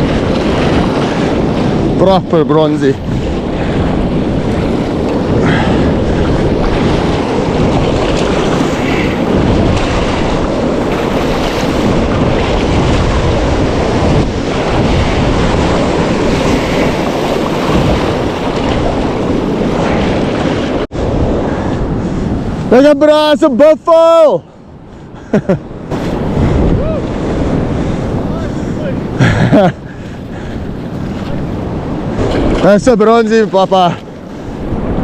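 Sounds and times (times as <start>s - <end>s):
surf breaking on shore: 0.0s - 35.0s
wind buffeting microphone: 0.0s - 35.0s.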